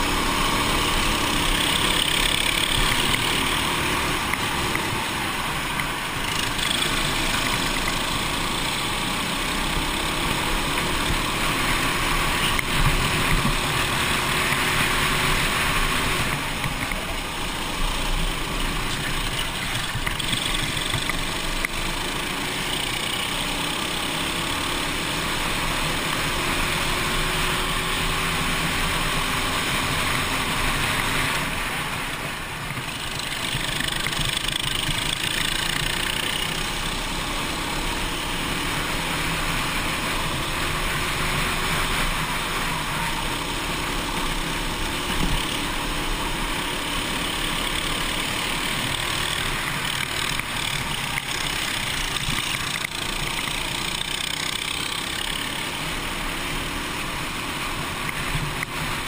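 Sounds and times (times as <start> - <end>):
go-kart engine revving: 0.0 - 59.0
wind and road noise: 0.0 - 59.0.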